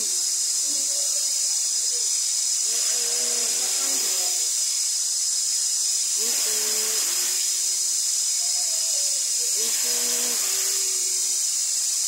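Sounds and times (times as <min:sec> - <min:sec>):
waterfall hissing: 0:00.0 - 0:12.0.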